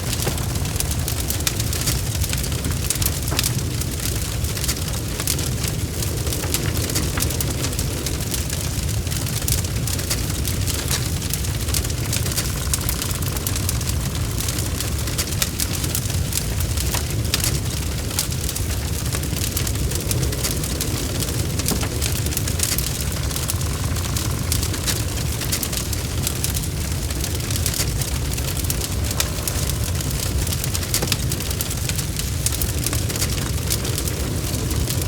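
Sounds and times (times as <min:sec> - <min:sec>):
low fire rumble: 0:00.0 - 0:35.0
wood fire crackling: 0:00.0 - 0:35.0.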